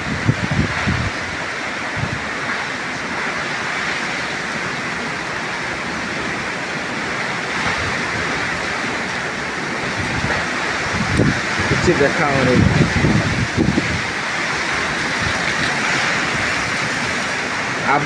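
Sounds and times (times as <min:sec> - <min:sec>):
wind buffeting microphone: 0:00.0 - 0:02.6, 0:05.2 - 0:17.8
heavy rain on foliage: 0:00.0 - 0:18.0.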